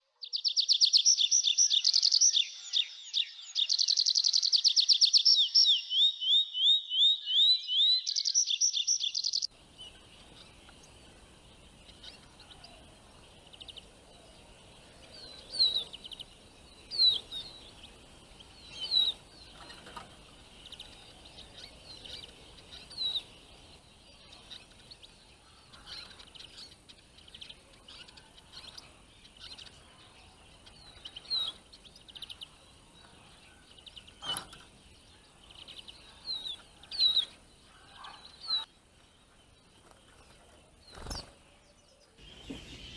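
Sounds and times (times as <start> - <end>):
outdoor background noise: 0.0 - 42.9
songbird singing in fast trills: 0.2 - 42.9.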